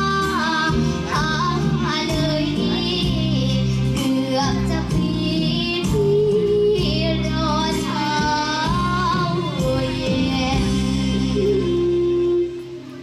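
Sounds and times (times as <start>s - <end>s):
amplified instrumental music: 0.0s - 13.0s
girl singing into microphone: 0.0s - 13.0s.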